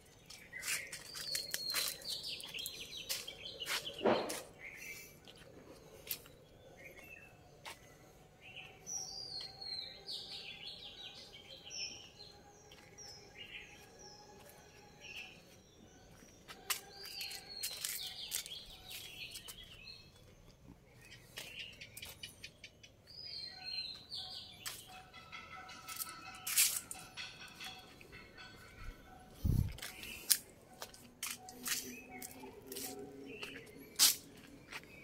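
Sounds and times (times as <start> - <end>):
small birds chirping: 0.0 - 25.2, 25.9 - 35.0.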